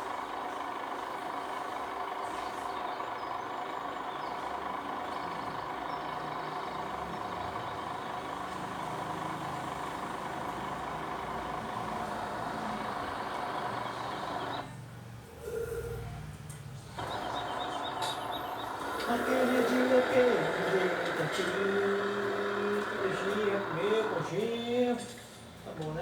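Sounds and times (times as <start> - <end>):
heavy engine whining: 0.0 - 26.0.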